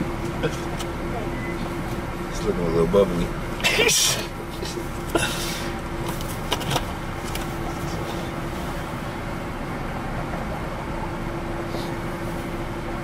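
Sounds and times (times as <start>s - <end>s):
air-conditioning fan: 0.0s - 13.0s
car engine running: 0.0s - 13.0s.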